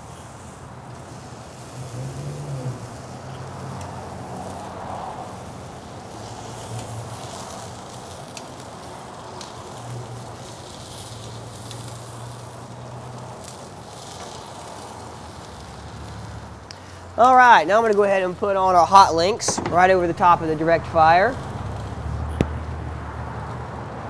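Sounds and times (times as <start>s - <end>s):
sausages sizzling on a grill: 0.0s - 23.6s.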